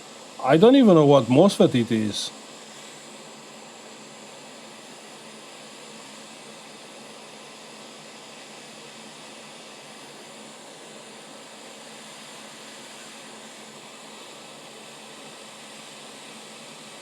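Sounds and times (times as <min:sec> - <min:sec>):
hot air station hissing: 0:00.0 - 0:17.0.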